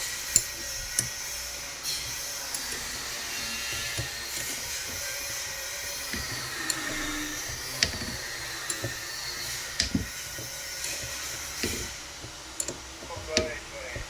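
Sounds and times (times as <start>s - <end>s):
power tool motor whining: 0.0s - 14.0s
sharp knocks and clicks: 0.2s - 14.0s.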